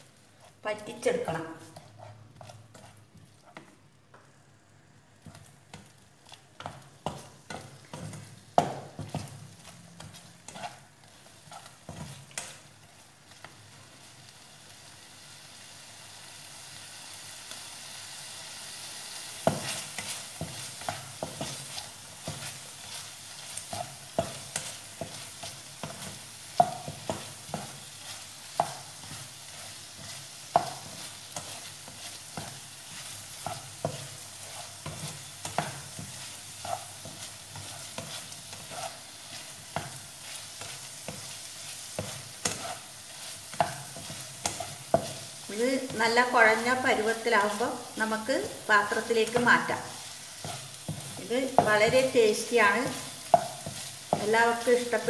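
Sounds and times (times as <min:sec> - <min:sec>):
sauce sizzling: 0:00.0 - 0:55.0
spatula scraping frying pan: 0:00.4 - 0:03.7, 0:05.2 - 0:12.7, 0:19.4 - 0:55.0.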